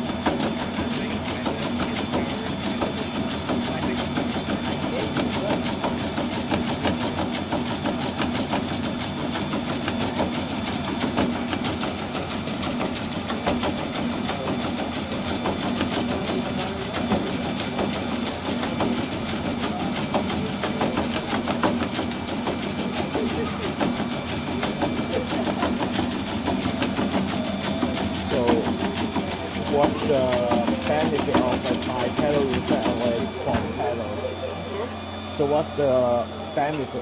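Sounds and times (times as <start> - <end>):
treadmill motor hum: 0.0 - 37.0
robot feet clattering on treadmill: 0.1 - 34.2.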